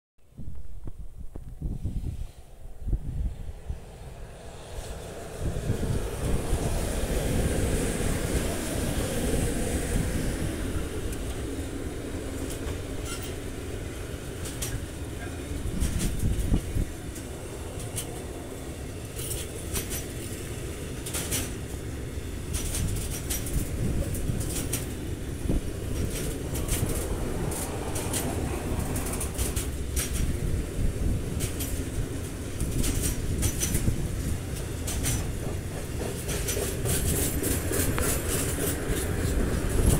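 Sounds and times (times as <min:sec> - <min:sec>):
freight train wheels rumbling: 0:00.8 - 0:39.9
wheels clicking over rail joints: 0:04.8 - 0:39.9.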